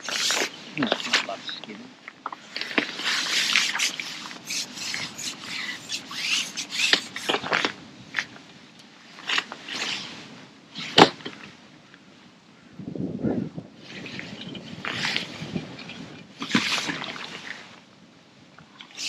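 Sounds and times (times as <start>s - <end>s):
rustling and scraping handling noises: 0.0s - 11.7s, 13.8s - 17.8s.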